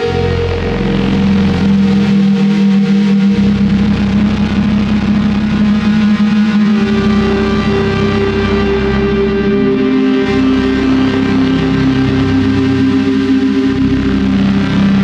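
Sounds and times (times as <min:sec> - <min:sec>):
droning low music note: 0:00.0 - 0:15.0.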